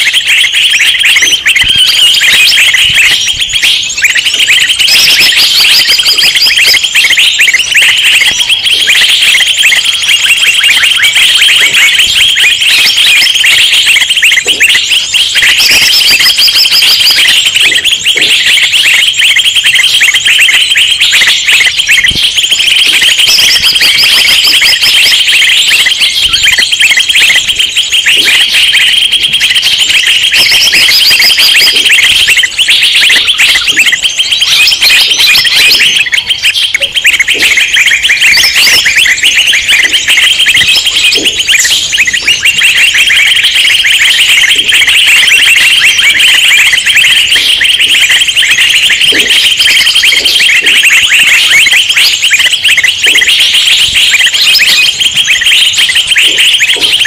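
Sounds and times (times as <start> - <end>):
high-pitched bird phrases: 0.0 - 57.0
songbirds chirping and chattering: 0.0 - 57.0.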